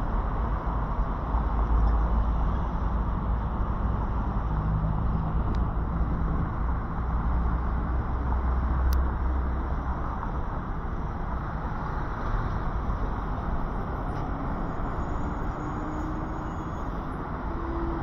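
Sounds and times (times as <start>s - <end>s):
passing traffic: 0.0s - 18.0s
vehicle engine humming: 0.0s - 18.0s.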